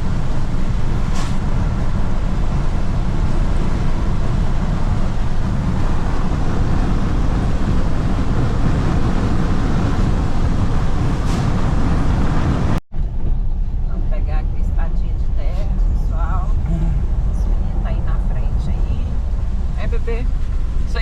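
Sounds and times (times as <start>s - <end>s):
road and engine noise inside vehicle: 0.0s - 21.0s.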